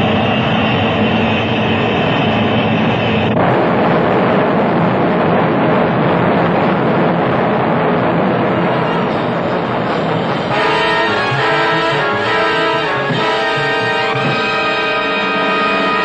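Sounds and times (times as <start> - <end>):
high jet whine: 0.0 - 16.0
jet engine roar: 0.0 - 16.0.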